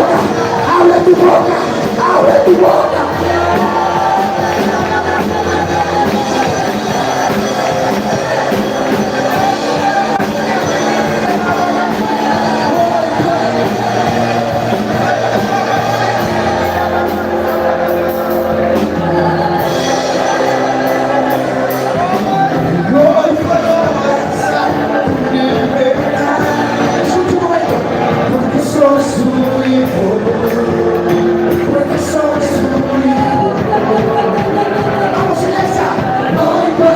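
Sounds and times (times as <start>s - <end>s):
congregation singing and calling out: 0.0s - 36.9s.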